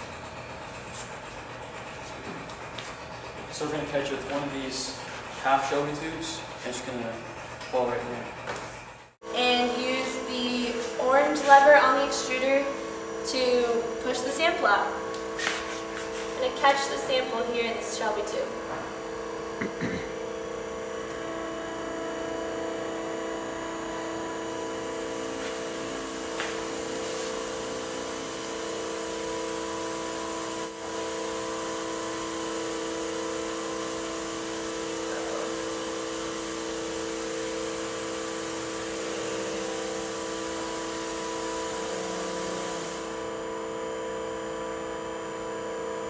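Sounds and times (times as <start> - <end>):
extruder humming: 0.0 - 46.0.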